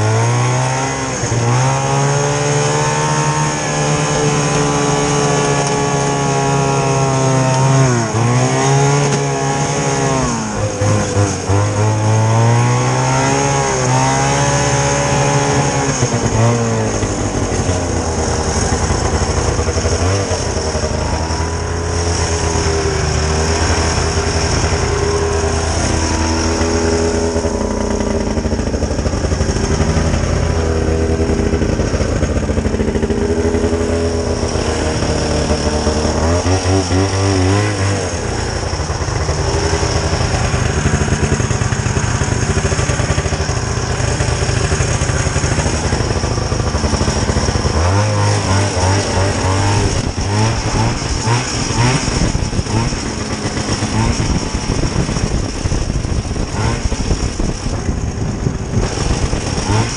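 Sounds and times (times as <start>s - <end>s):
high whine: 0.0s - 59.9s
snowmobile engine running: 0.0s - 59.9s.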